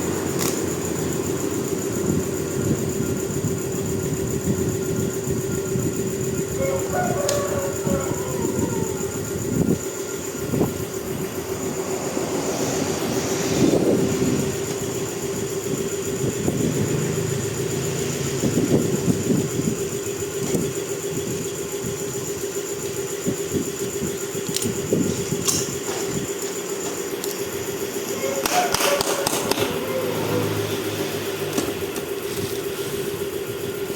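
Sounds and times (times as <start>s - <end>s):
heavy vehicle humming: 0.0s - 22.5s, 24.8s - 33.9s.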